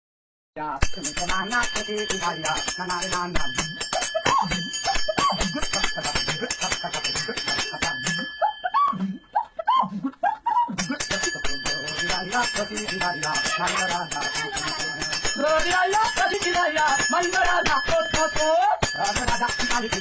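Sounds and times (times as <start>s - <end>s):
small bell ringing rapidly: 0.8s - 9.6s, 10.7s - 20.0s.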